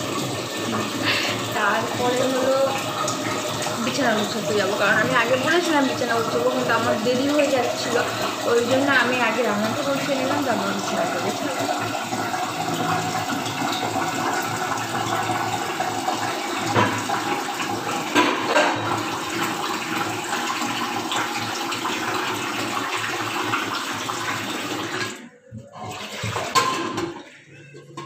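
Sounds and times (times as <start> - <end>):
water running from tap: 0.0 - 27.3.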